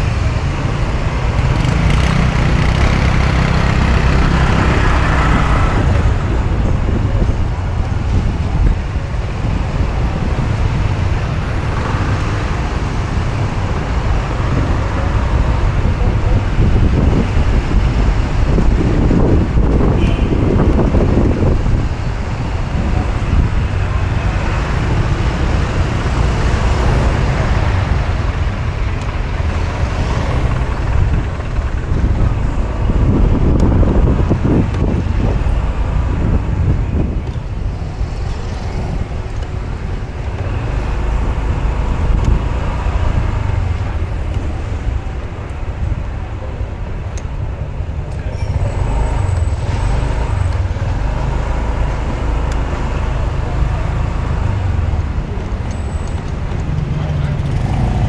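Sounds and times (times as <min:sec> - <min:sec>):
city road traffic: 0:00.0 - 0:58.0
vehicle engine rumble: 0:00.0 - 0:58.0.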